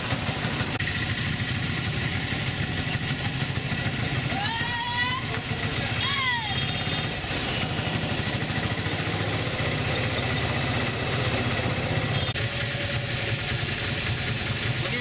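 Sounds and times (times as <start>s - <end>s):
auto-rickshaw engine throbbing: 0.0s - 15.0s.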